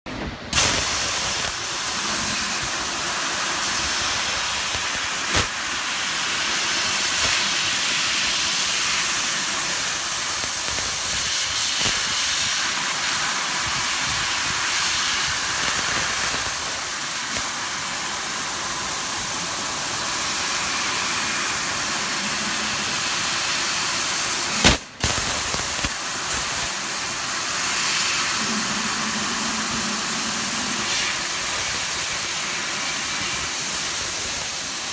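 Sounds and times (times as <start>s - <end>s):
laser cutter hissing: 0.4s - 34.9s.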